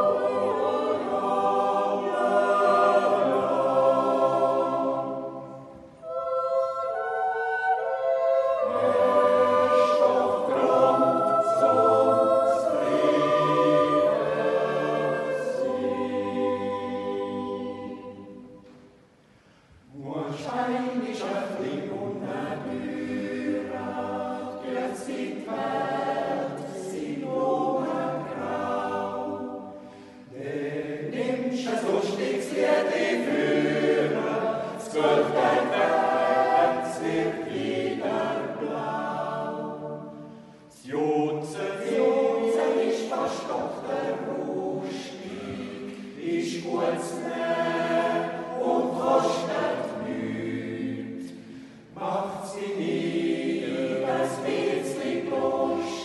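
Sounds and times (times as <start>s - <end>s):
choir yodeling a cappella: 0.0s - 18.9s, 19.9s - 56.0s.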